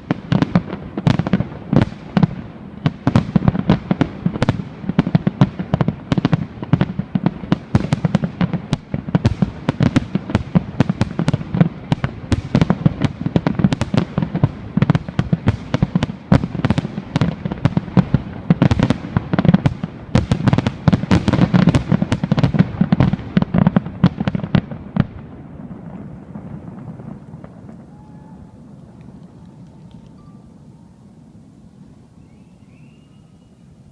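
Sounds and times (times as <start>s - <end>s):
fireworks bangs: 0.0s - 33.0s
low steady noise: 0.0s - 33.9s.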